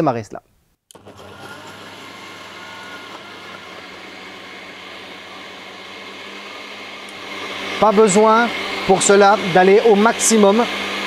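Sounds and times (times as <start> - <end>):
blender motor whirring: 0.9 - 11.0.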